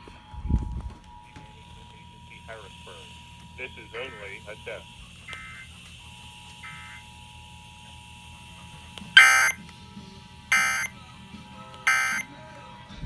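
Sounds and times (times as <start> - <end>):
shrill screeching data buzzes: 0.0 - 13.0.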